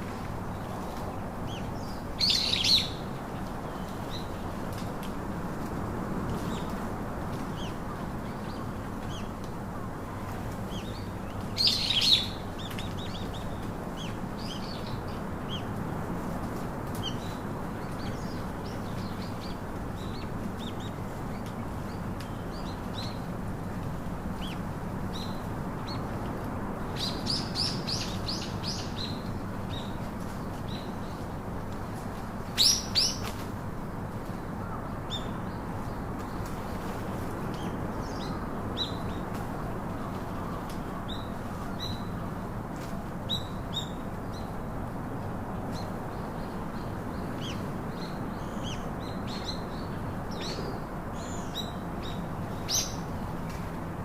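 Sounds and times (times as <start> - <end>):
songbirds chirping: 0.0 - 54.0
steady background hiss: 0.0 - 54.0.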